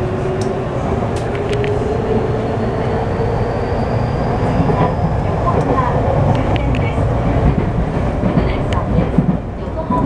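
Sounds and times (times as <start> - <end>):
wheels rumbling on rail: 0.0 - 10.0.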